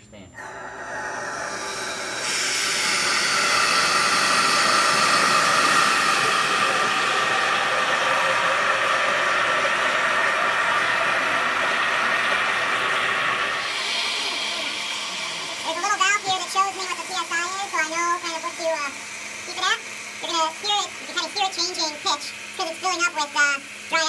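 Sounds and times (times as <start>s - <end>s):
gas rushing through a hose: 0.4s - 24.0s.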